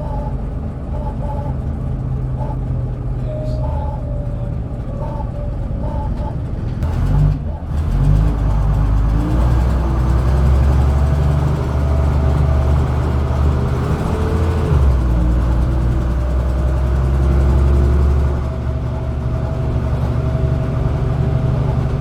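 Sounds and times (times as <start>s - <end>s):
bus diesel engine under load: 0.0s - 22.0s.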